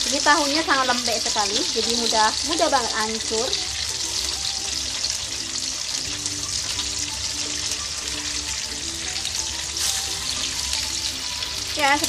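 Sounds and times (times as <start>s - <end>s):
soft background music: 0.0s - 12.0s
tofu sizzling in oil: 0.0s - 12.0s.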